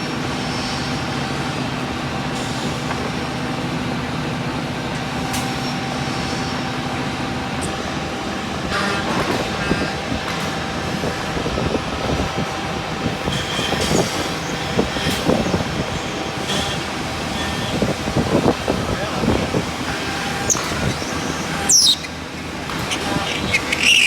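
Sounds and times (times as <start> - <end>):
machine hum with faint whine: 0.0 - 24.0.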